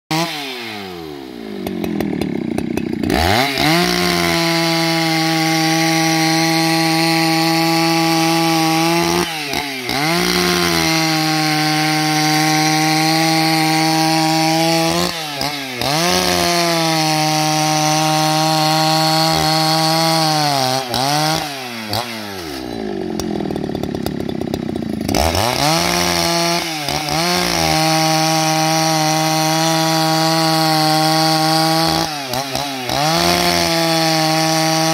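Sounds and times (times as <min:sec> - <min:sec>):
chainsaw cutting through log: 0:00.1 - 0:34.9.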